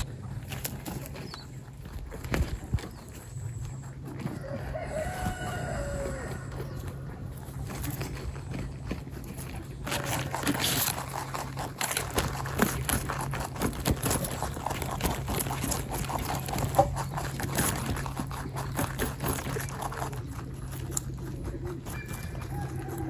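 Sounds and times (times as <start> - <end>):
rabbit chewing carrot: 0.0 - 23.0.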